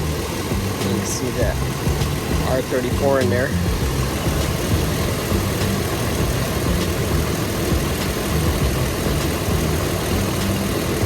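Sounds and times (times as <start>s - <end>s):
air conditioning running: 0.0s - 11.0s
car engine idling: 0.0s - 11.0s.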